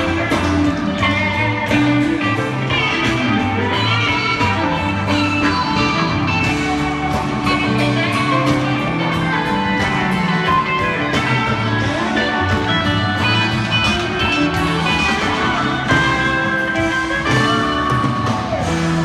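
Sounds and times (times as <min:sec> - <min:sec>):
rock music with guitar: 0:00.0 - 0:19.0.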